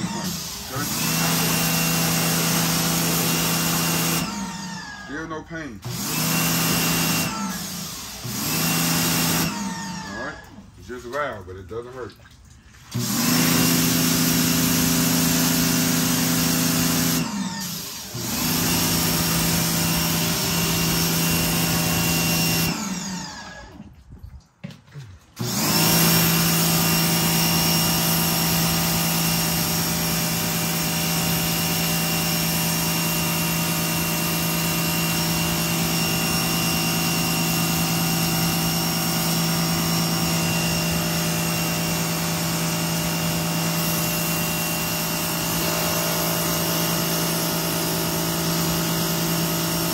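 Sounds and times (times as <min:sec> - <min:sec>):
pressure washer motor hum: 0:00.0 - 0:49.9.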